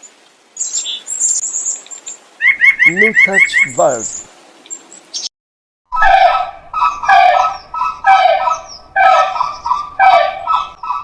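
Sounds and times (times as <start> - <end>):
bird chirping: 0.6 - 5.3, 6.8 - 11.0.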